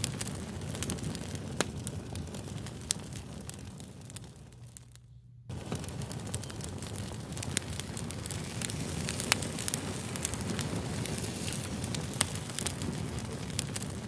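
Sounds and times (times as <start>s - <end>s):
flame rumbling: 0.0s - 14.0s
wood fire popping and snapping: 0.0s - 14.0s.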